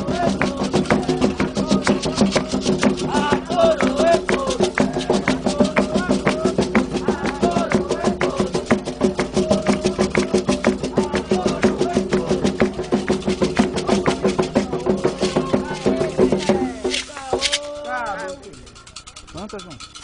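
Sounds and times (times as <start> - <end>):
group singing a chant: 0.0 - 18.5
fast hand drumming: 0.0 - 20.0.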